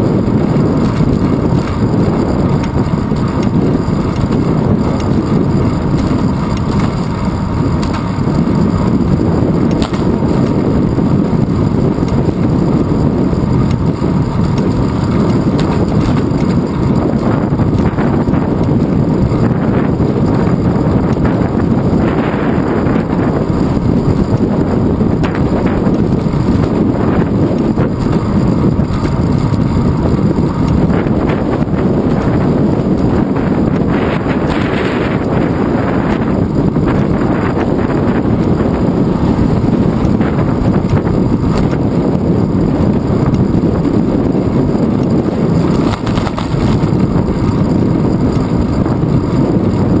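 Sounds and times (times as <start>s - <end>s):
bicycle road noise: 0.0s - 50.0s
wind buffeting microphone: 0.0s - 50.0s.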